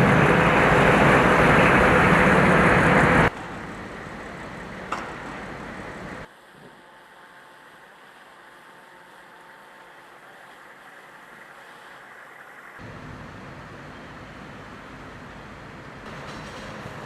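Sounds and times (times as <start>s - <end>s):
vehicle engine noise: 0.0s - 17.0s.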